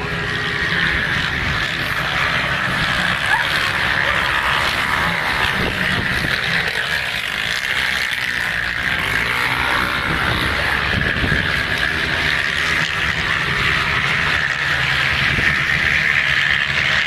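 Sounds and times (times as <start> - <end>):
dirt bike engines running: 0.0 - 17.0.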